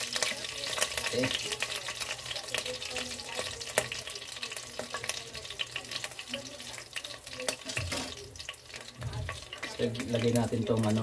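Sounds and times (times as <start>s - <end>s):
hot oil sizzling in a wok: 0.0s - 11.0s.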